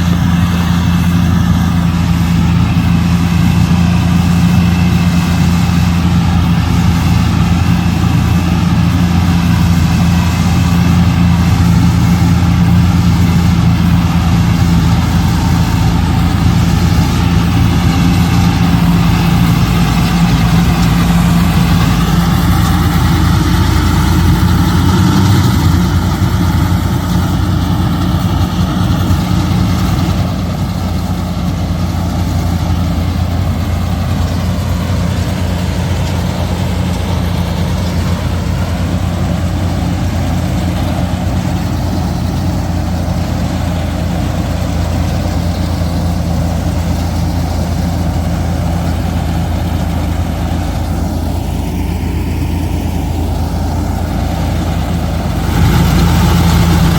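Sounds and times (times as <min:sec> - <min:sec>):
combine harvester engine running: 0:00.0 - 0:56.9.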